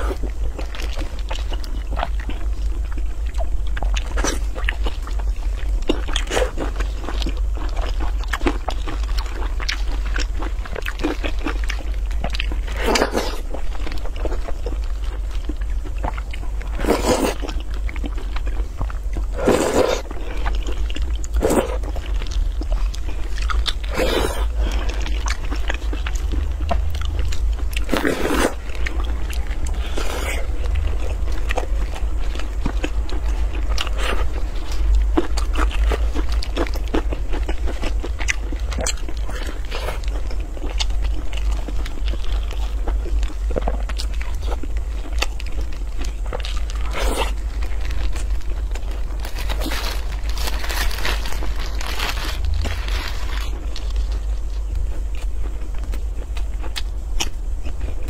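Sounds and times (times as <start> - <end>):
low hum: 0.0 - 58.0
wet chewing: 0.0 - 58.0.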